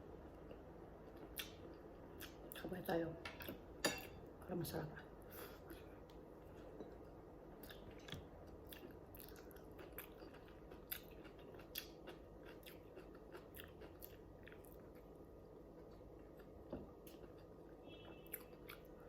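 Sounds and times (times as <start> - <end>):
person chewing food: 0.3 - 2.6, 5.6 - 19.0.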